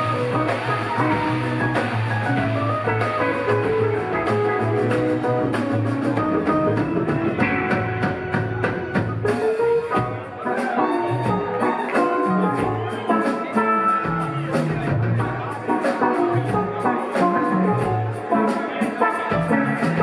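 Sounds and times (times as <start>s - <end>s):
electric lead guitar: 0.0s - 20.0s
live rock band playing: 0.0s - 20.0s.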